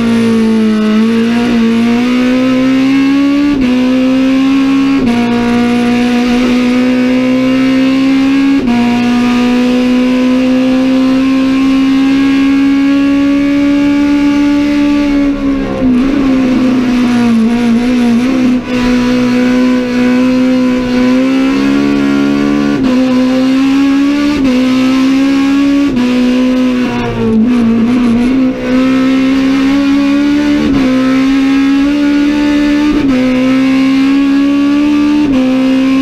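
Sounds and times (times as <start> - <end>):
engine blips on downshifts: 0.0 - 36.0
race car engine revving: 0.0 - 36.0.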